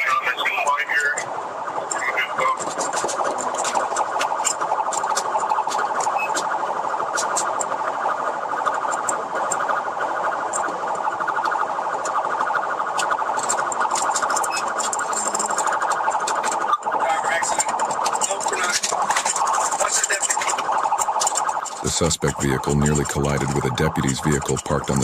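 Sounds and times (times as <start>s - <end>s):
police siren warbling: 0.0s - 25.0s.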